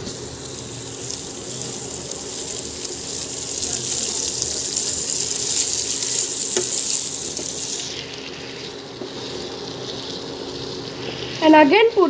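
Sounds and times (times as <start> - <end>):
chicken and vegetables sizzling: 0.0 - 12.0.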